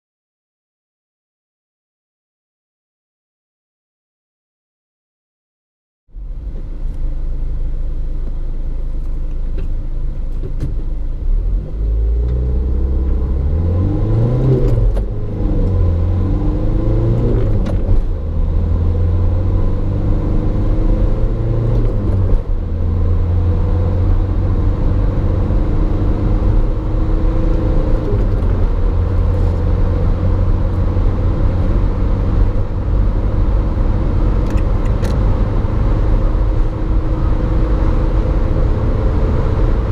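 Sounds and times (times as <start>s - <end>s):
diesel engine accelerating through gears: 6.1s - 39.9s.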